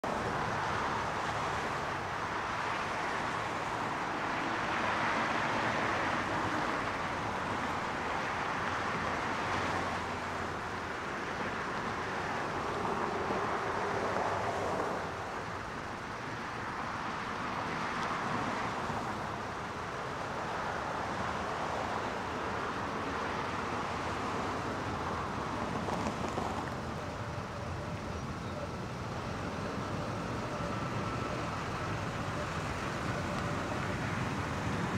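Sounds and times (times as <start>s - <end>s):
road vehicles passing: 0.0s - 34.9s.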